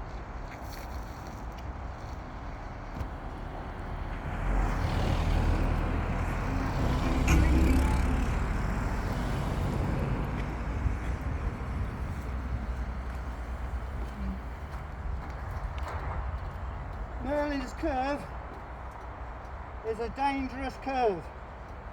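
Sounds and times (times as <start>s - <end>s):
vehicle engine and tyre noise: 0.0s - 21.9s.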